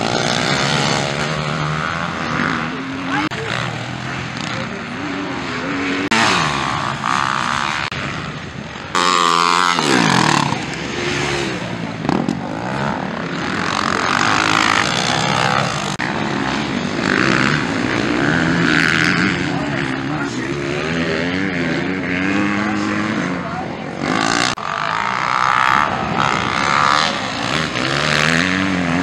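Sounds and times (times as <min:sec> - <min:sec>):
motorbike engines revving: 0:00.0 - 0:29.0.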